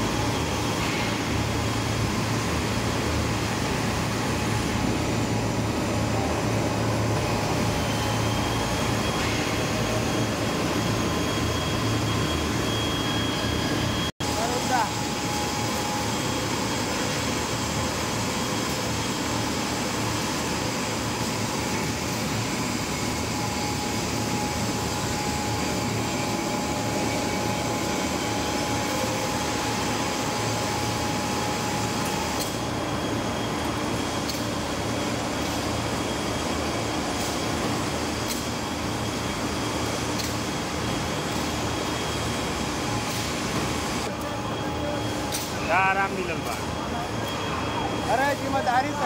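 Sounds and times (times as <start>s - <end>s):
machinery whine: 0.0s - 49.0s
rolling mill machinery humming: 0.0s - 49.0s.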